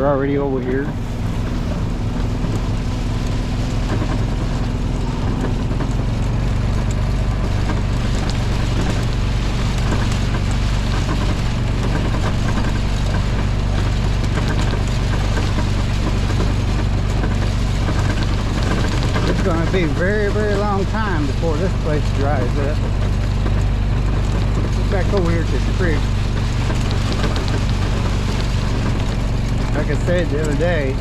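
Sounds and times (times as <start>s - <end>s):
constant rushing noise: 0.0s - 31.0s
vehicle engine running: 0.0s - 31.0s.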